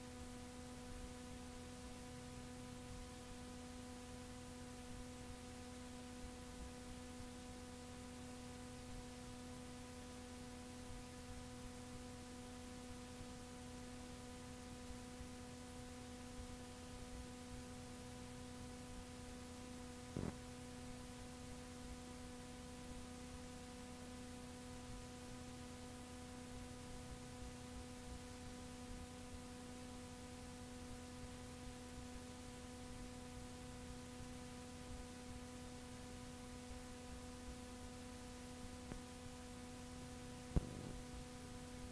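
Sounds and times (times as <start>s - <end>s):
electrical hum: 0.0s - 41.9s
tape hiss: 0.0s - 41.9s.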